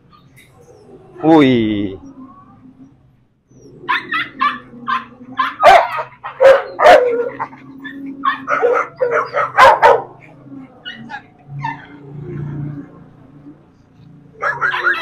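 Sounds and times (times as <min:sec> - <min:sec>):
dogs barking and yipping: 0:00.0 - 0:01.2, 0:02.0 - 0:15.0.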